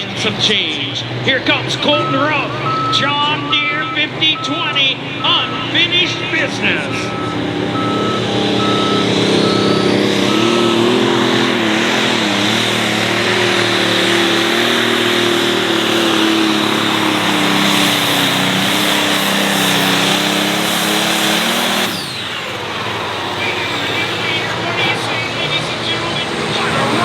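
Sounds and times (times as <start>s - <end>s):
tractor engine at full throttle: 0.0s - 27.0s.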